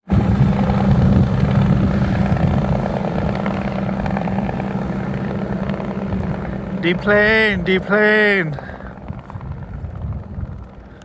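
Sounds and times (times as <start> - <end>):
helicopter turbine and rotor: 0.0 - 11.0.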